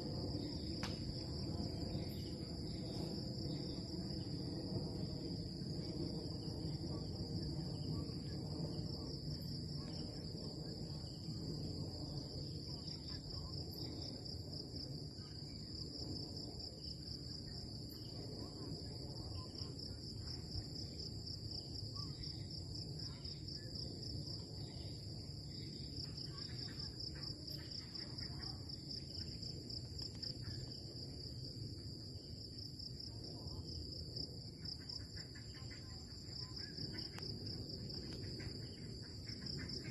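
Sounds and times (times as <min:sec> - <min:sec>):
crickets chirping: 0:00.0 - 0:39.9
low steady background noise: 0:00.0 - 0:39.9.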